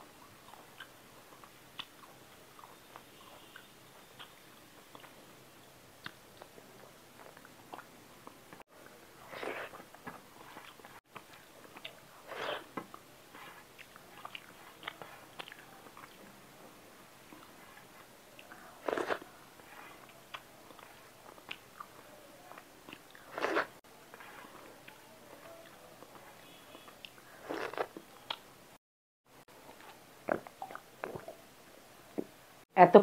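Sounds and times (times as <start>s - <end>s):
chewing and mouth noises: 0.3s - 5.2s, 6.0s - 16.4s, 17.2s - 28.5s, 29.5s - 31.4s.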